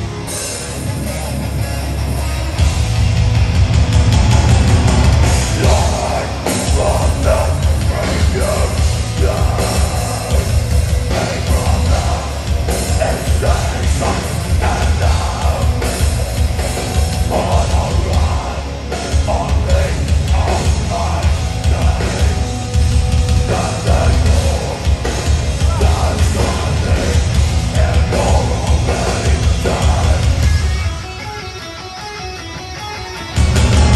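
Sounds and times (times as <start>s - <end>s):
bass guitar: 0.0s - 33.9s
distorted electric guitars: 0.0s - 33.9s
drum kit: 0.0s - 33.9s.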